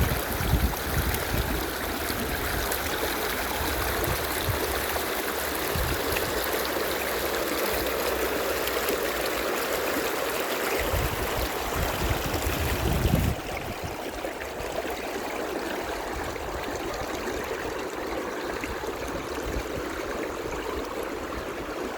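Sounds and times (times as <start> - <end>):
spring water running: 0.0 - 21.9.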